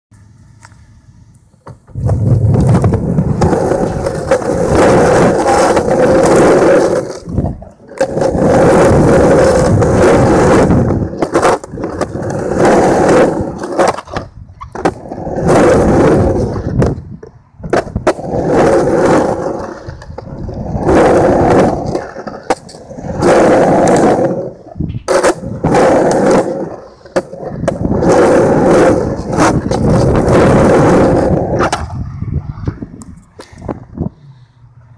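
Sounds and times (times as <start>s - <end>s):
skateboard wheels rolling on concrete: 0.2s - 34.9s.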